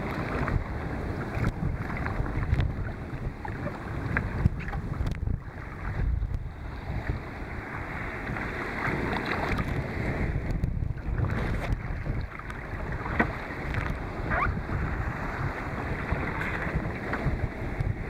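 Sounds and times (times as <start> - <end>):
waves splashing around kayak: 0.0 - 18.0
wind buffeting microphone: 0.0 - 18.0.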